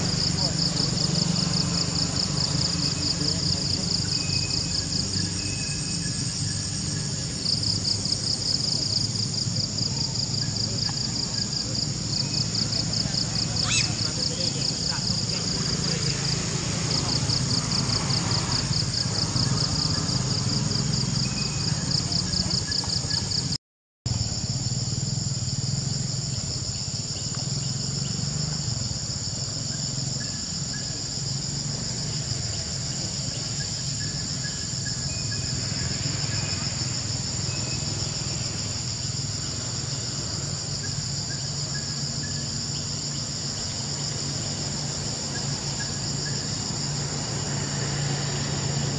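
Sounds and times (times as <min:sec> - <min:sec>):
shrill insect drone: 0:00.1 - 0:23.4, 0:24.2 - 0:48.9.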